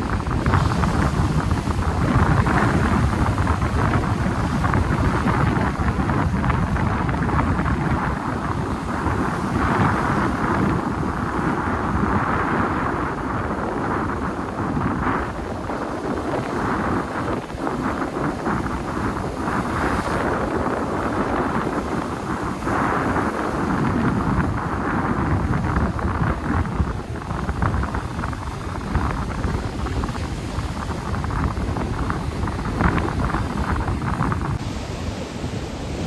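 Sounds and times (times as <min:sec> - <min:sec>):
waves breaking on shore: 0:00.0 - 0:36.0
wind buffeting microphone: 0:00.0 - 0:36.0.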